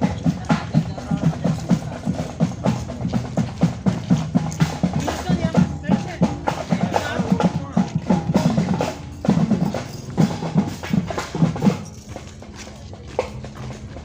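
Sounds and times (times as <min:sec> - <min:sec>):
parade drums beating: 0:00.0 - 0:14.0
voices: 0:00.0 - 0:14.0.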